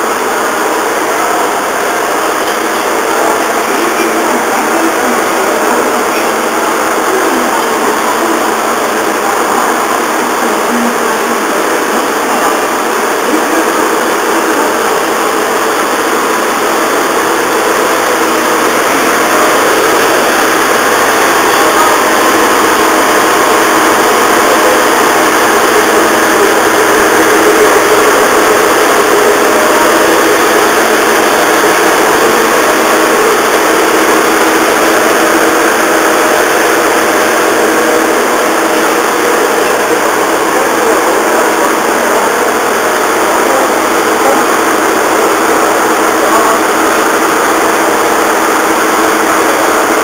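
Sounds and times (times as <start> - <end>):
diesel engine and fans droning: 0.0 - 50.0.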